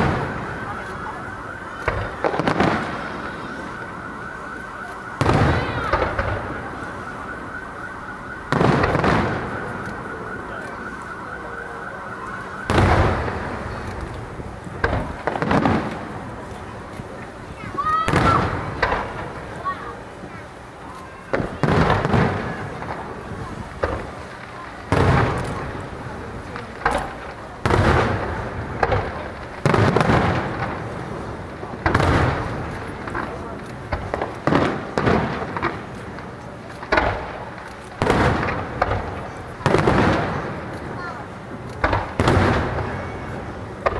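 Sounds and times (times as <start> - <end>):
firework booms: 0.0 - 43.9
firework crackling: 0.0 - 43.9.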